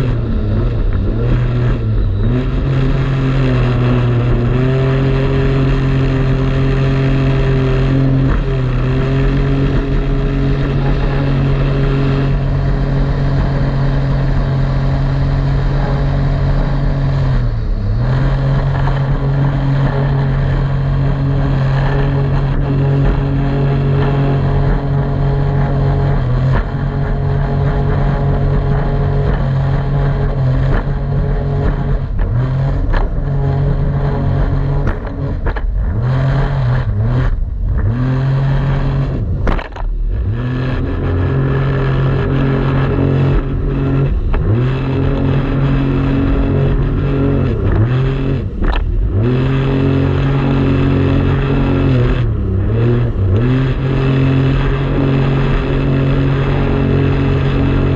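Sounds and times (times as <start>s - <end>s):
jet ski engine running: 0.0s - 57.9s.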